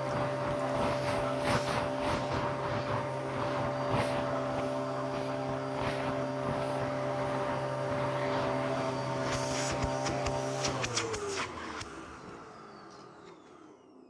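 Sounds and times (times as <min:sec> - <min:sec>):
hose sweeping over rug: 0:00.0 - 0:11.7
vacuum cleaner motor running: 0:00.0 - 0:14.0.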